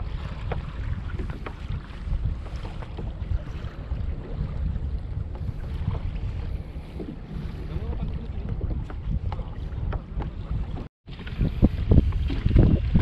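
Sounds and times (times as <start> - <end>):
water slapping against kayak: 0.0 - 13.0
wind buffeting microphone: 0.0 - 13.0.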